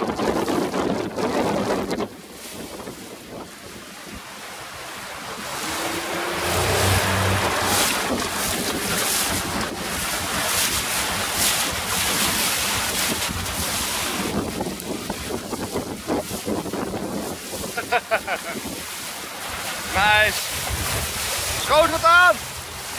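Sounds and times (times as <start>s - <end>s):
water rushing along boat hull: 0.0s - 22.9s
wind buffeting microphone: 0.0s - 22.9s.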